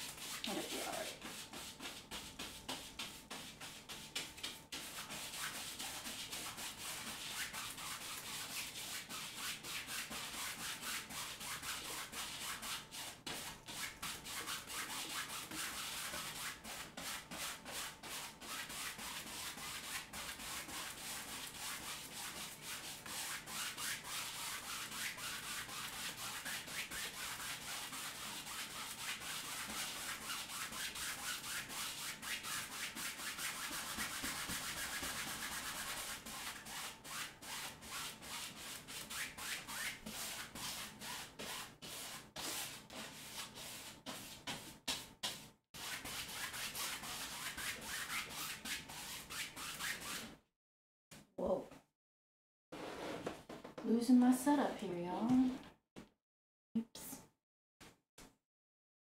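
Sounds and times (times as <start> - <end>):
paintbrush scrubbing canvas: 0.0 - 50.3.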